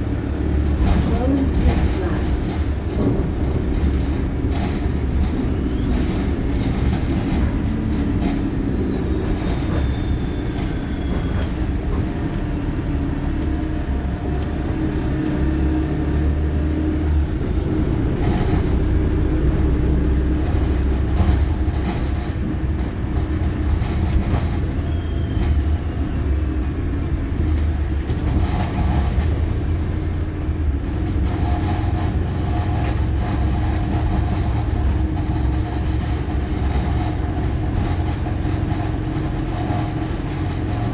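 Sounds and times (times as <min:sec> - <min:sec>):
diesel bus engine: 0:00.0 - 0:40.9
rattles and clatters: 0:00.0 - 0:40.9
road rumble: 0:00.0 - 0:40.9.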